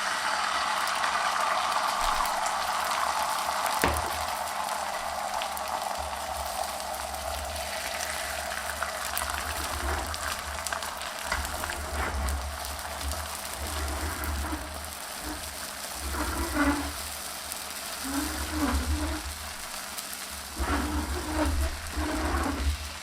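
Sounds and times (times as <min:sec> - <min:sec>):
food sizzling in a hot pan: 0:00.0 - 0:23.0.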